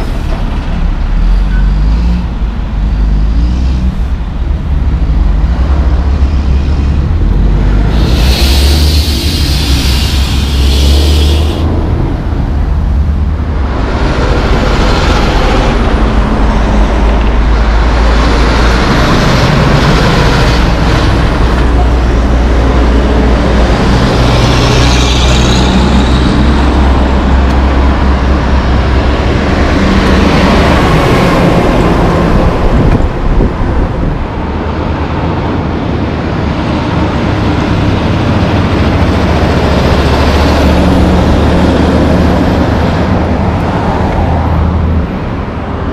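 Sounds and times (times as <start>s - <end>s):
heavy diesel trucks passing: 0.0s - 45.9s
road traffic: 0.0s - 45.9s.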